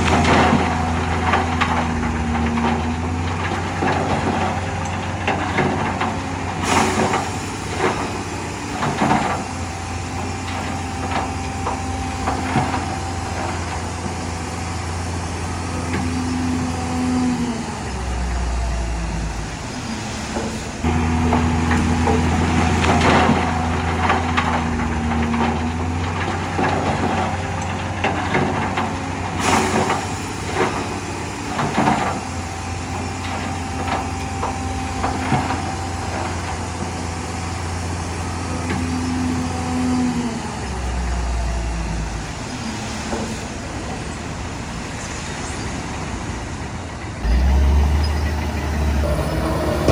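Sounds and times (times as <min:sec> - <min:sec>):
diesel machinery running: 0:00.0 - 0:49.9.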